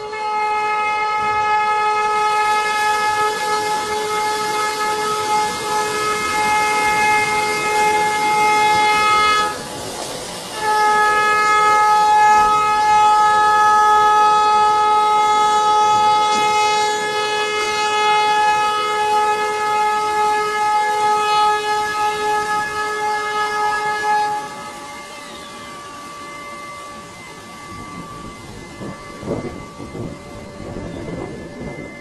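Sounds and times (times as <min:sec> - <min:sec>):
boat horn blast: 0:00.0 - 0:32.0.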